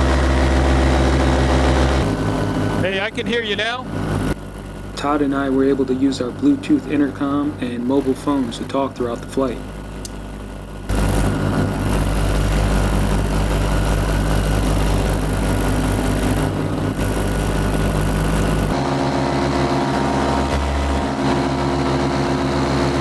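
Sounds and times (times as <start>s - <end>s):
propeller noise: 0.0s - 23.0s
two-stroke engine running: 0.0s - 23.0s.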